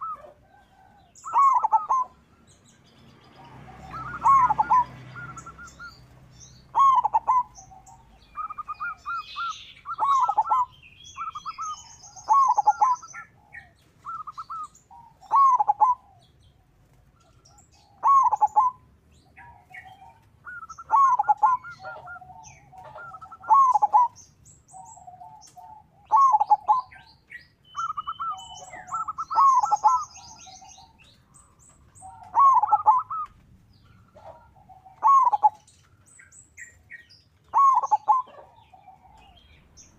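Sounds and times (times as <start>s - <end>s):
dove cooing: 0.0s - 2.3s, 3.2s - 35.7s, 36.6s - 39.9s
high bird chirps and trills: 0.0s - 39.9s.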